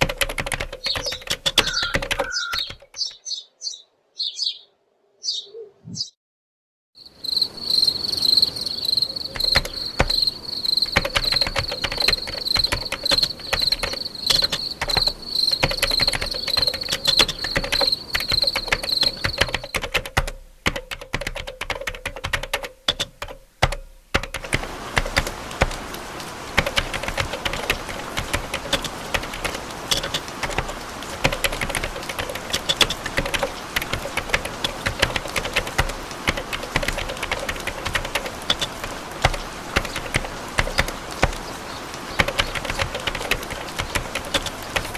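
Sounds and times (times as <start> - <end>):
dense rapid clicking: 0.0 - 3.0, 9.4 - 25.8, 26.6 - 41.4, 42.2 - 44.9.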